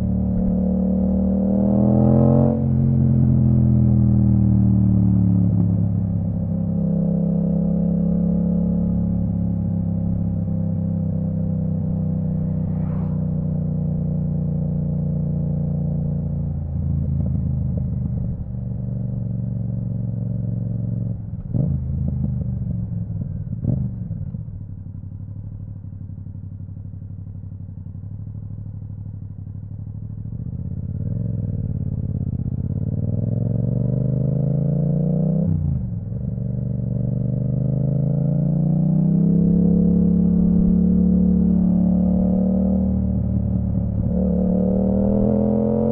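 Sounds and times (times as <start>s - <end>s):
motorcycle engine revving: 0.0s - 24.3s, 30.4s - 45.9s.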